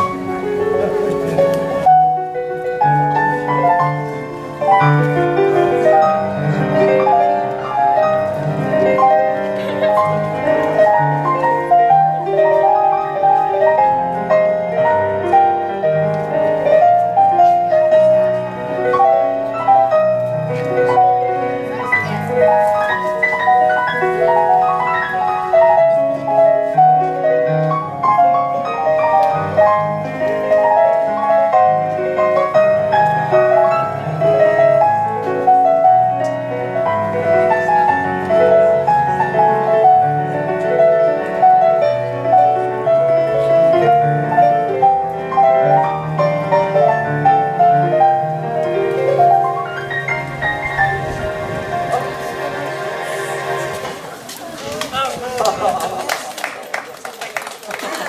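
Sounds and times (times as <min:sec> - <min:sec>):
electronic keyboard piano melody: 0:00.0 - 0:54.3.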